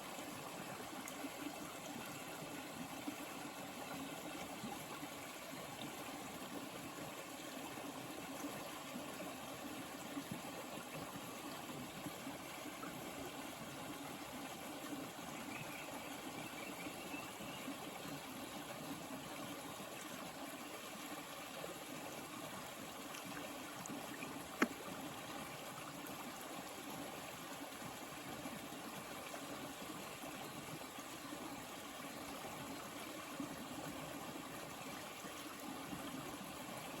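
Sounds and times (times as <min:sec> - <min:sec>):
water flowing: 0:00.0 - 0:37.0.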